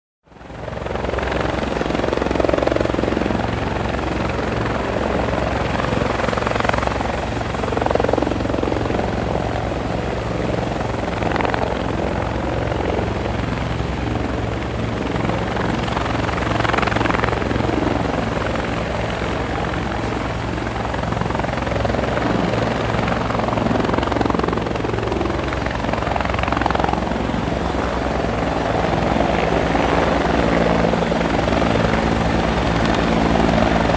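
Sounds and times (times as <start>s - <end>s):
helicopter rotor beating: 0.4s - 33.9s.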